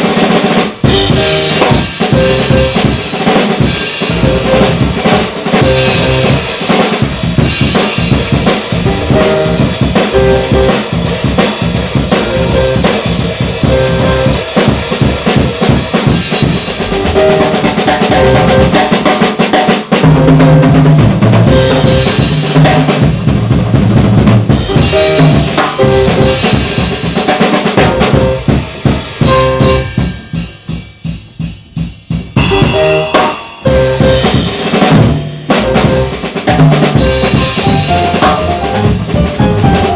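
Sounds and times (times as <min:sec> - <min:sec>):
drum kit: 0:00.0 - 0:39.9
jazz piano trio playing: 0:00.0 - 0:39.9.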